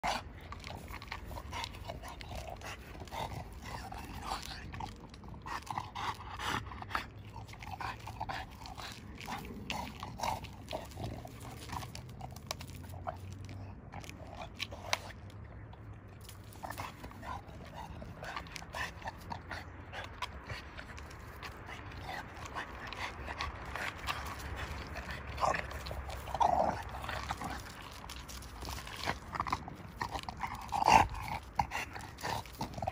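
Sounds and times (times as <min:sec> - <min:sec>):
dog gnawing on log: 0:00.0 - 0:32.9.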